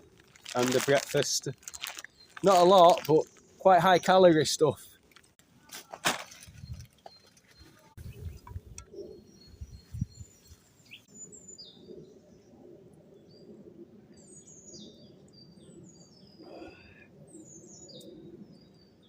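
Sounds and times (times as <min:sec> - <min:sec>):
songbirds singing: 0:00.0 - 0:05.4, 0:06.2 - 0:19.0.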